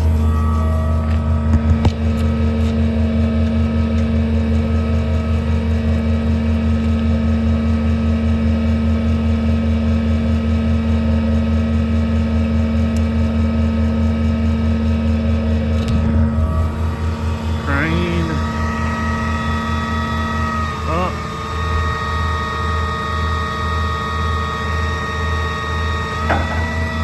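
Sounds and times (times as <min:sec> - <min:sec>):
air compressor pumping: 0:00.0 - 0:27.0
diesel engine running: 0:00.0 - 0:27.0.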